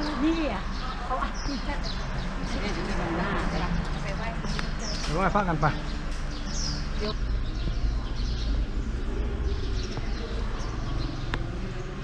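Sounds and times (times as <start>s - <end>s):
distant voices: 0.0s - 12.0s
steady low rumble: 0.0s - 12.0s.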